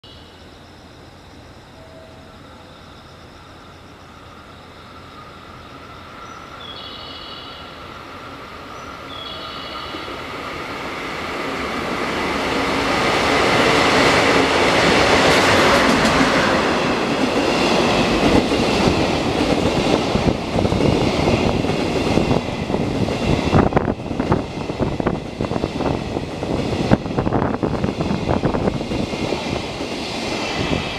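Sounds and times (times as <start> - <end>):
diesel locomotive engine: 0.0 - 30.9.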